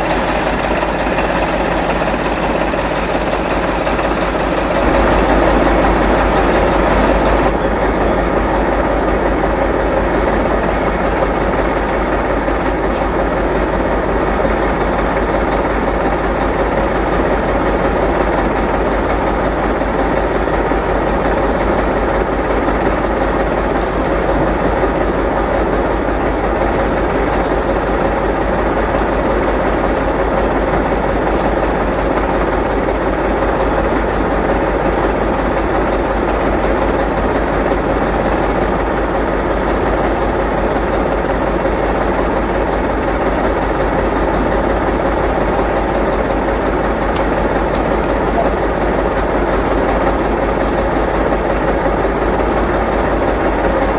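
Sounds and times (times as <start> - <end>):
heavy engine idling: 0.0 - 53.9.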